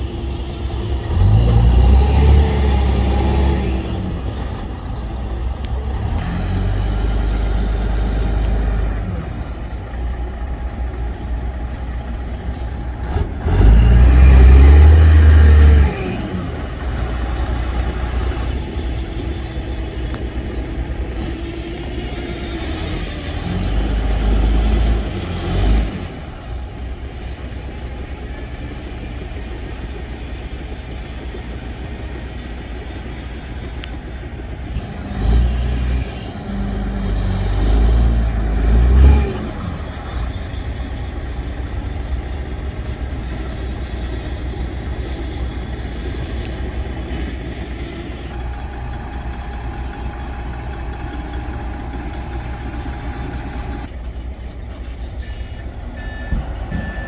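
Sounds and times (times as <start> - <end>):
heavy diesel engines revving: 0.0 - 57.0.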